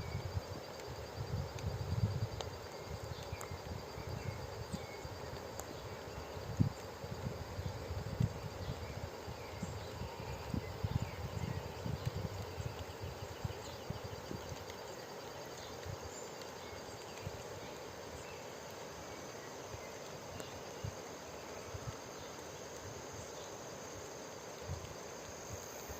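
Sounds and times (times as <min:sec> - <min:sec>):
insects calling: 0:00.0 - 0:25.9.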